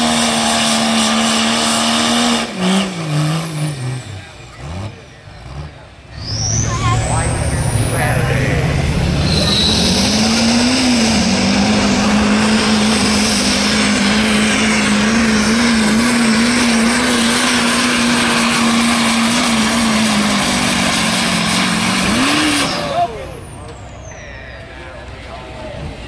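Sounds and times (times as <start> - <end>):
pickup truck engine at full throttle: 0.0 - 26.0.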